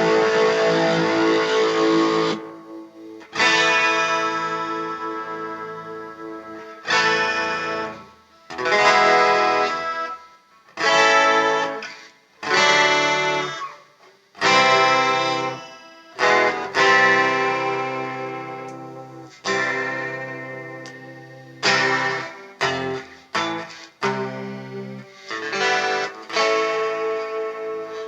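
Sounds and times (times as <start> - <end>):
electric guitar chords ringing: 0.0 - 28.0.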